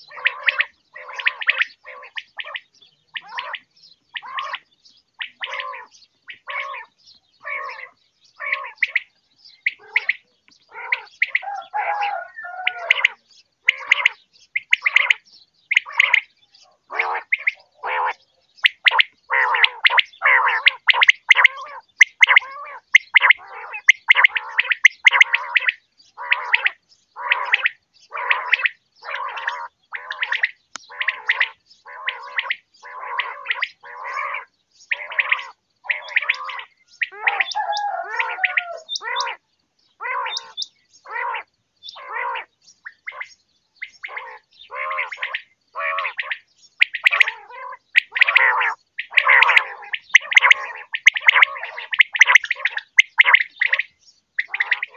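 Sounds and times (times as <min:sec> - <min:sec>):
quail calling: 0:00.0 - 0:39.4, 0:40.0 - 0:54.9.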